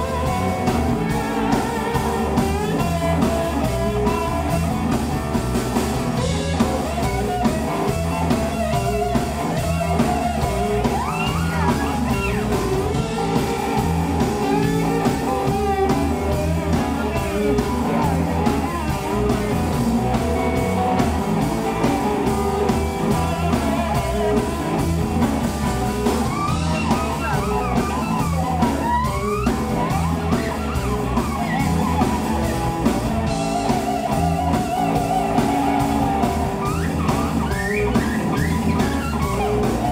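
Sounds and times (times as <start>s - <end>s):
bass guitar: 0.0s - 39.9s
drum kit: 0.0s - 39.9s
electric guitar lead with bent notes: 0.0s - 39.9s.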